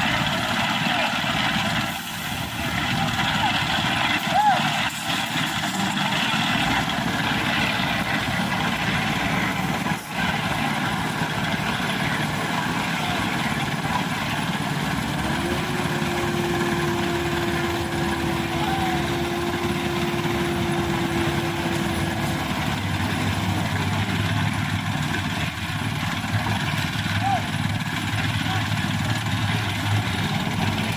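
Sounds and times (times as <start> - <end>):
engine idling: 0.0 - 30.9
steady whine: 0.0 - 30.9.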